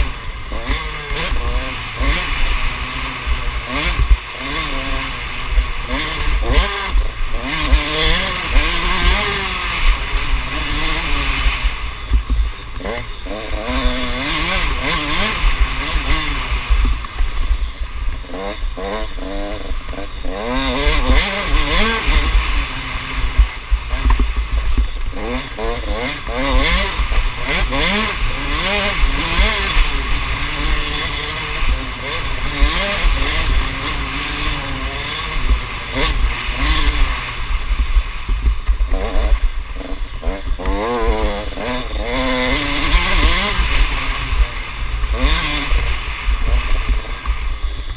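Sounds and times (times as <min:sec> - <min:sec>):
background motorbikes: 0:00.0 - 0:47.9
motocross bikes revving: 0:00.0 - 0:47.9.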